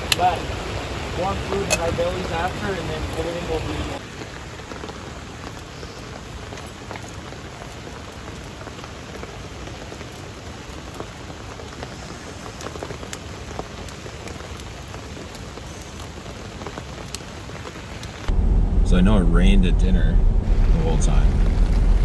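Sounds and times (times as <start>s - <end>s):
sharp ticks of raindrops: 0.0s - 18.3s
steady rain falling: 0.0s - 22.0s.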